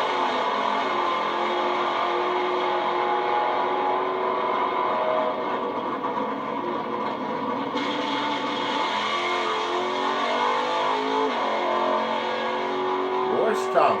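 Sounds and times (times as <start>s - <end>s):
drag racing engines: 0.0s - 14.0s.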